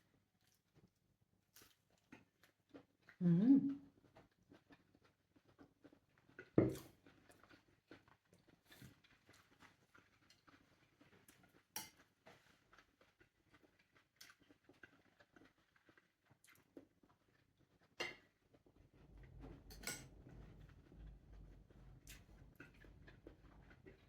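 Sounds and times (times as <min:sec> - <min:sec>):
soft chewing: 0:00.1 - 0:24.0.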